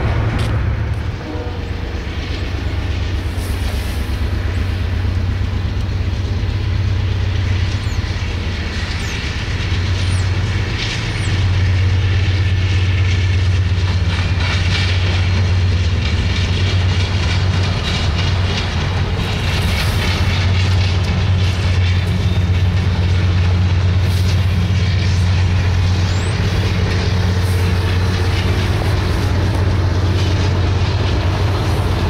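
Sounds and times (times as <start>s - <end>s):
locomotive engine rumble: 0.0s - 32.0s
train wheels clacking on rails: 0.0s - 32.0s.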